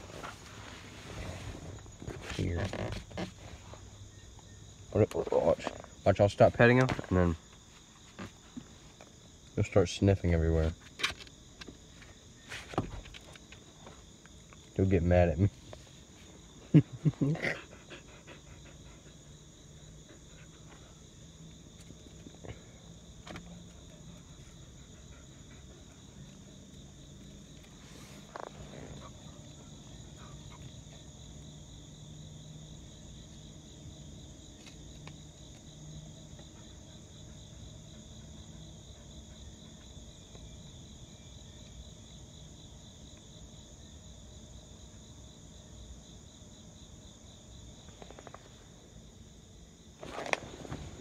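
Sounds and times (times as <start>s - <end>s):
insect chorus chirring: 0.0s - 51.0s.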